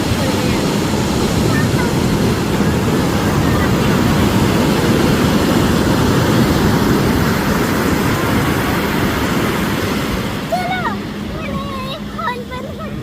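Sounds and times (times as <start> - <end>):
jet ski engine drone: 0.0 - 13.0
wind rush on microphone: 0.0 - 13.0.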